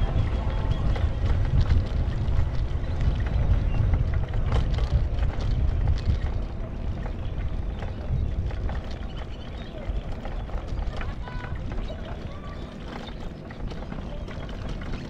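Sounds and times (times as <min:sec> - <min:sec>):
vehicle road and engine noise: 0:00.0 - 0:15.0
wind buffeting: 0:00.0 - 0:15.0.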